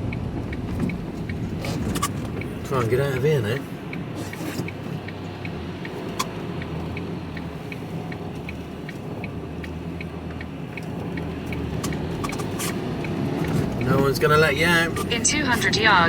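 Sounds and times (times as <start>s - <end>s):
turn signal ticking: 0.0s - 16.0s.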